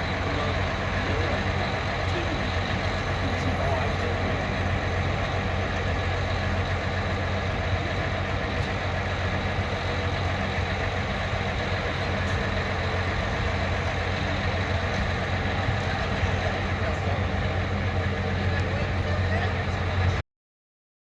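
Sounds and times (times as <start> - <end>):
engine humming steadily: 0.0 - 20.2.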